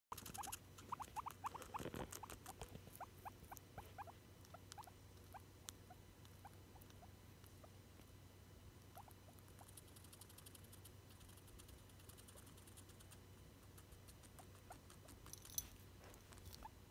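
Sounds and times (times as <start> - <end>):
guinea pig squeaking: 0.1 - 8.1, 8.8 - 15.6, 16.3 - 16.9.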